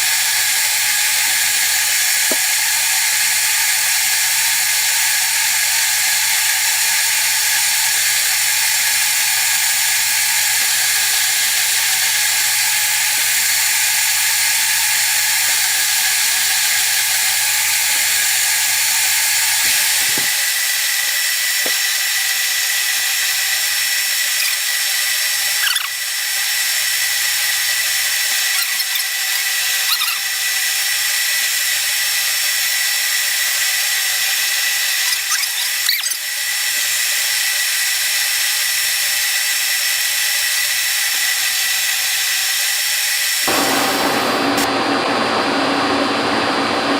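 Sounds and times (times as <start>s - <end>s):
metal lathe whining: 0.0s - 45.2s.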